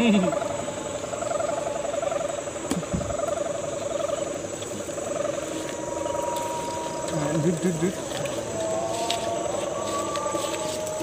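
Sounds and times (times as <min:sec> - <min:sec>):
kite hummer droning: 0:00.0 - 0:11.0.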